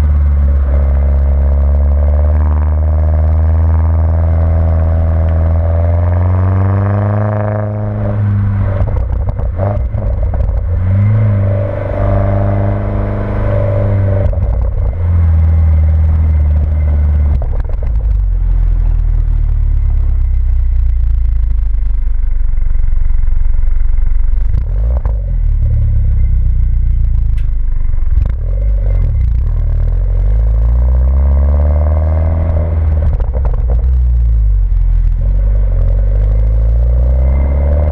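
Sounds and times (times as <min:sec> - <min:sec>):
car engine and exhaust revving: 0:00.0 - 0:37.9.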